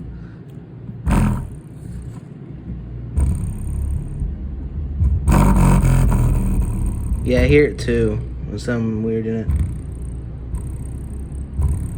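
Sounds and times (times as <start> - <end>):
subwoofer deep bass: 0.0 - 11.9.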